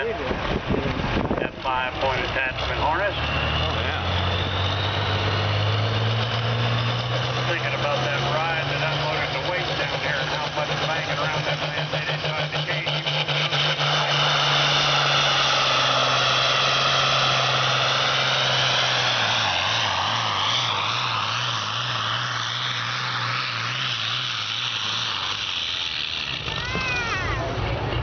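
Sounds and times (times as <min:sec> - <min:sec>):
tractor engine labouring: 0:00.0 - 0:28.0.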